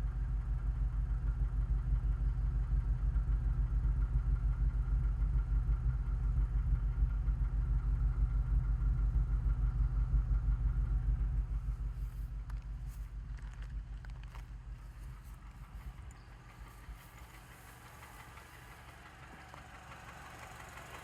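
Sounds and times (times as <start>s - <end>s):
car engine idling: 0.1s - 21.0s.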